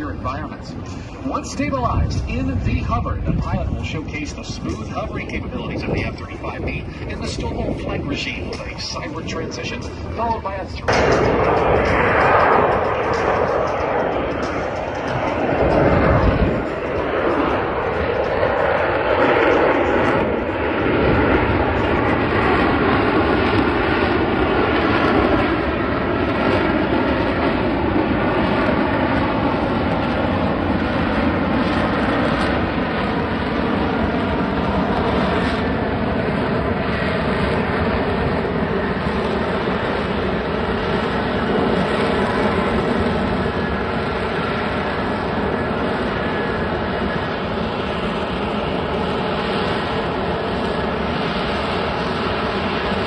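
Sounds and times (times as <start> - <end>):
jet engine roar with whine: 0.0 - 53.0.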